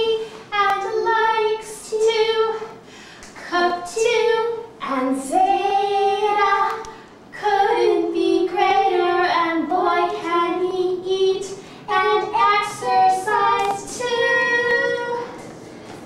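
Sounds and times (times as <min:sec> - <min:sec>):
woman and girl singing: 0:00.0 - 0:02.8, 0:03.4 - 0:15.4.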